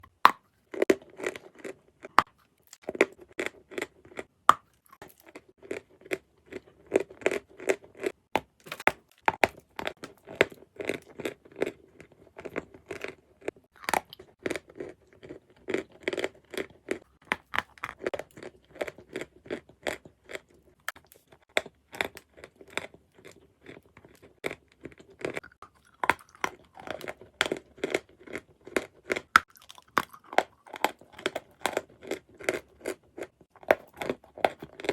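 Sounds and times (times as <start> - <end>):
crunching and chewing chalk: 0.0 - 34.9.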